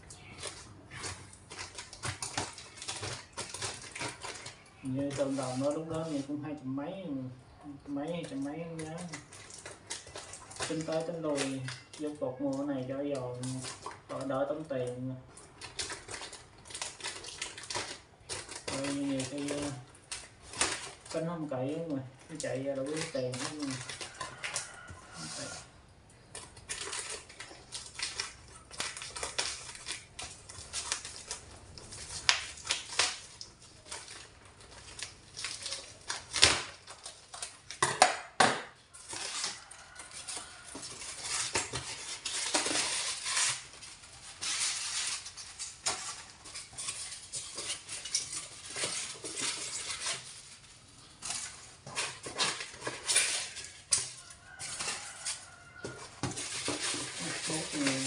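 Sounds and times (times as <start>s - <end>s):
paper and plastic crinkling: 0.0s - 58.0s
sharp crackles: 7.9s - 58.0s.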